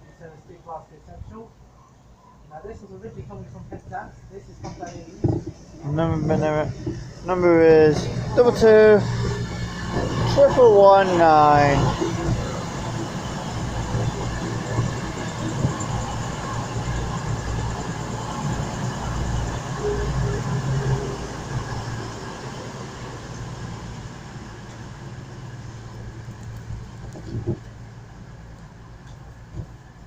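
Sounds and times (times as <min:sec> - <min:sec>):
diesel train engines rumbling: 0:00.0 - 0:30.0.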